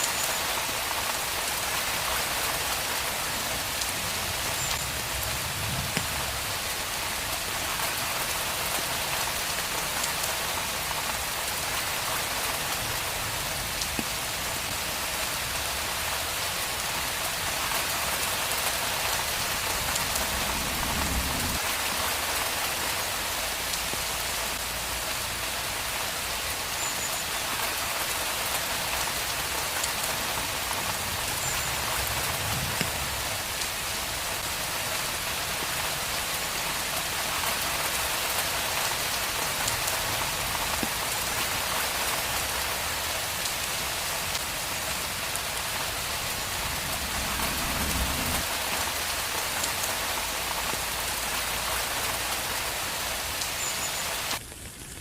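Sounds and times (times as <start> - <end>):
rain falling on a street: 0.0 - 55.0.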